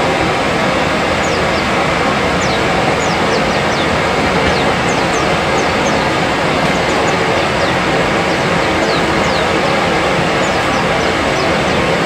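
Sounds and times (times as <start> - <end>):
steady rushing noise: 0.0 - 12.0
bird chirps: 1.0 - 12.0.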